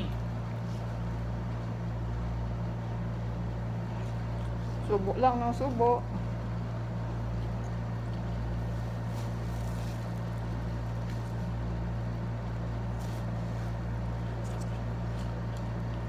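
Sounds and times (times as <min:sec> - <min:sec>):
air conditioner humming: 0:00.0 - 0:16.0.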